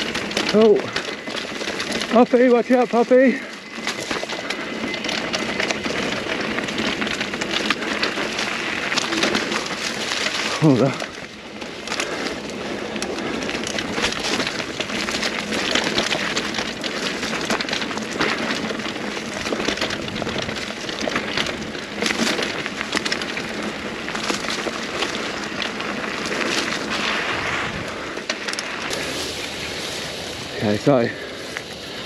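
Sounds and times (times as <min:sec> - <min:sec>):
bike rattling over bumps: 0:00.0 - 0:32.0
bike tyres rolling over dirt: 0:00.0 - 0:32.0.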